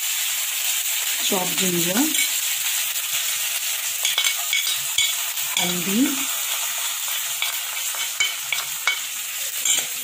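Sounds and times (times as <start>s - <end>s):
hot oil sizzling in pan: 0.0s - 10.0s.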